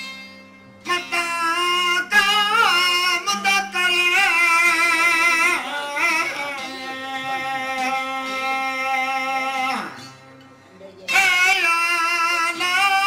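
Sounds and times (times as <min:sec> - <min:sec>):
string instrument drone: 0:00.0 - 0:13.0
man singing folk song: 0:00.8 - 0:10.2, 0:11.1 - 0:13.0.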